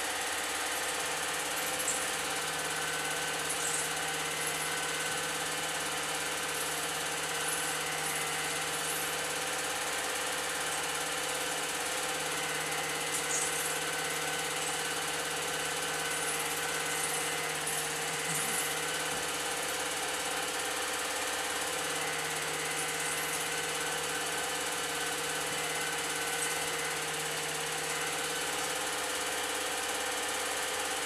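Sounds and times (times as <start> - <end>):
film projector whirring and rattling: 0.0 - 31.0.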